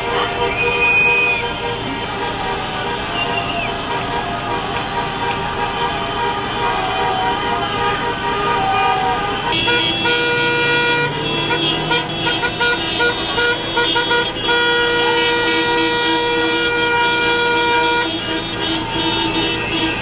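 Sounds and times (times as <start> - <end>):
long horn blast: 0.0 - 20.0
vehicle horns honking: 0.0 - 20.0.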